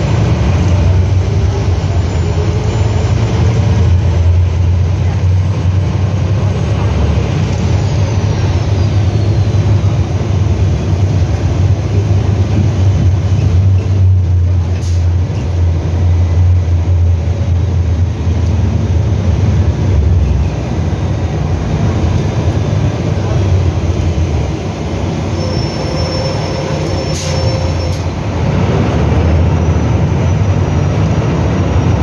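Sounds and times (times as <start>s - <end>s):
bus engine drone: 0.0s - 32.0s.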